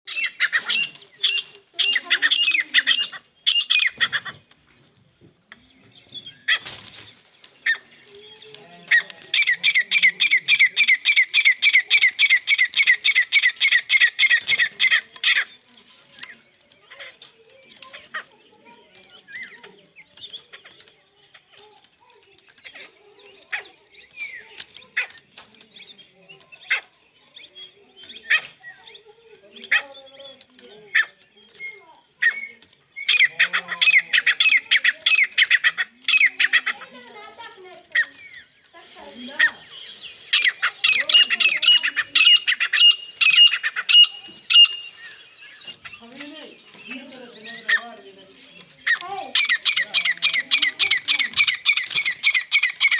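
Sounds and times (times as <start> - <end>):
partridges calling: 0.0 - 52.9.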